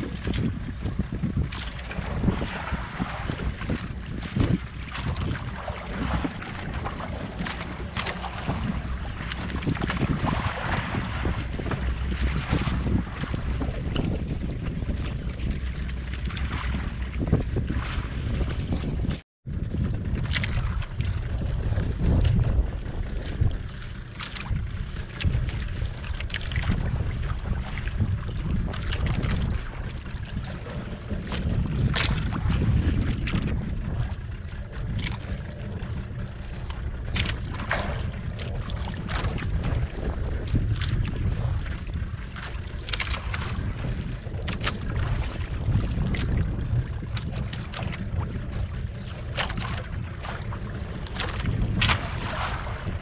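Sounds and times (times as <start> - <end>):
low rumble: 0.0 - 53.0
water splashing against hull: 0.0 - 53.0
wind buffeting microphone: 0.0 - 53.0.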